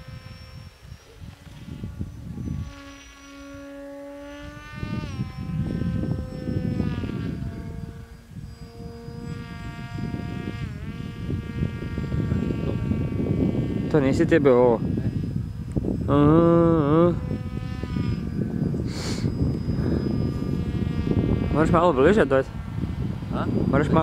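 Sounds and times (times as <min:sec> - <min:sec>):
low rumbling noise: 0:00.0 - 0:24.0
model plane propeller motor whining: 0:00.0 - 0:24.0.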